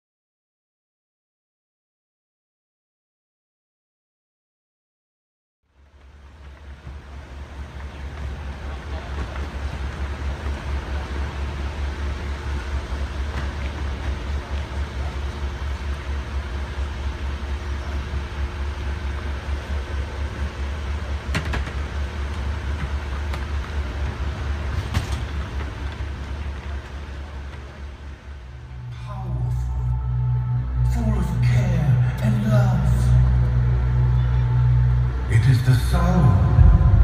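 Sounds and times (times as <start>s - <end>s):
fluttering low rumble: 6.1s - 37.0s.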